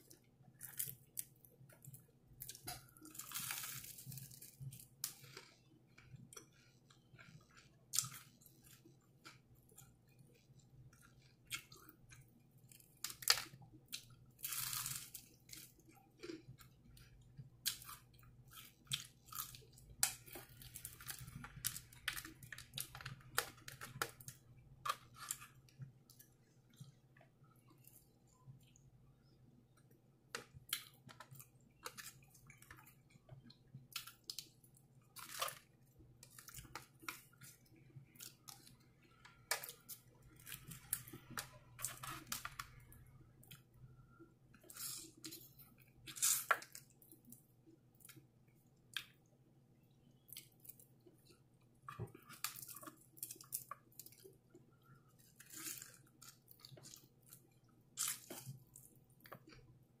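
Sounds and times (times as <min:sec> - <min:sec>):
crunching fried chicken: 0:00.1 - 0:26.9, 0:30.4 - 0:43.8, 0:44.6 - 0:48.3, 0:50.2 - 0:59.8.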